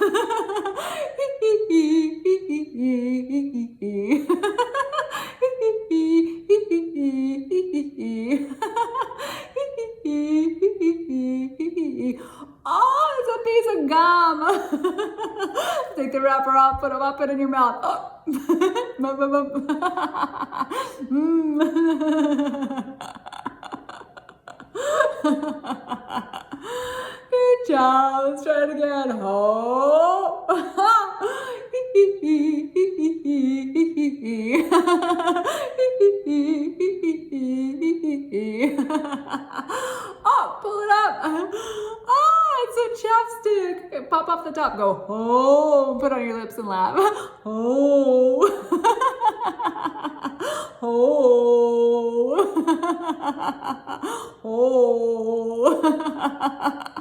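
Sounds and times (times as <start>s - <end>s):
woman laughing: 0.0s - 2.6s, 4.0s - 12.1s, 12.7s - 44.9s, 46.0s - 57.0s.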